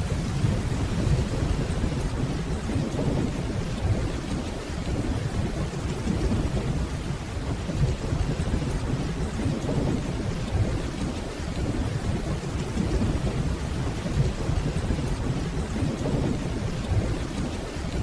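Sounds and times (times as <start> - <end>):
distant rolling thunder: 0.0 - 18.0
steady rainfall: 0.0 - 18.0.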